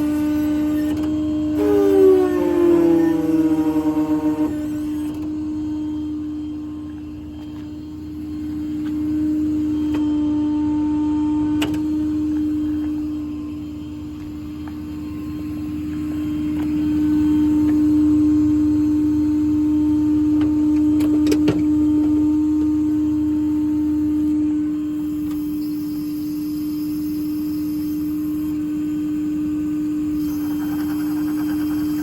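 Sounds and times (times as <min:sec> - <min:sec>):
crane hydraulics whining: 0:00.0 - 0:32.0.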